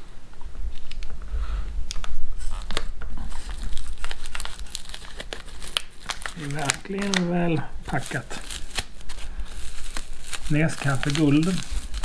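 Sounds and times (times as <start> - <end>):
wrappers crinkling and rustling: 1.9 - 12.0.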